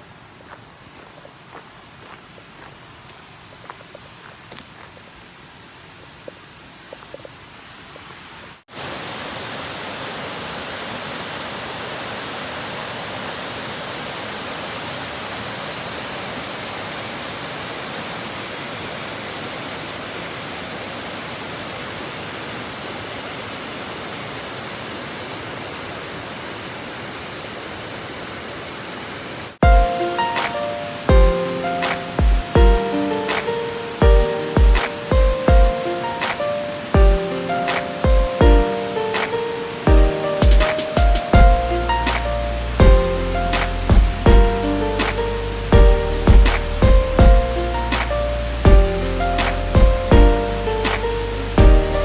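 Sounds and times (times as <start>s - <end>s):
waterfall rushing: 6.5s - 52.0s.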